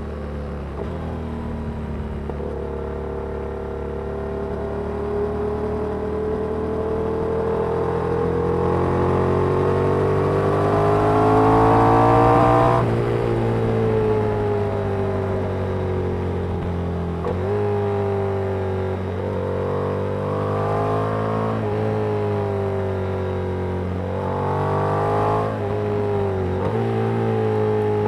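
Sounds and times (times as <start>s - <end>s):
motorcycle engine revving in tunnel: 0.0s - 28.0s.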